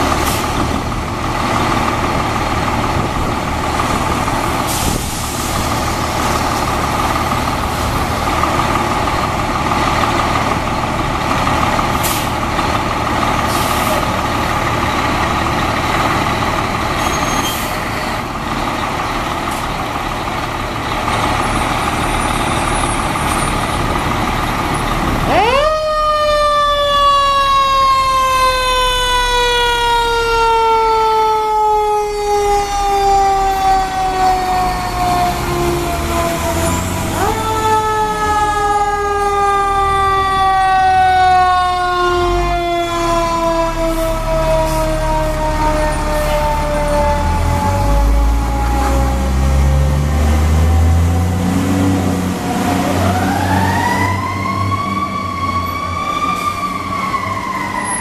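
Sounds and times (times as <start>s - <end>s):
fire truck diesel engine running: 0.0s - 58.0s.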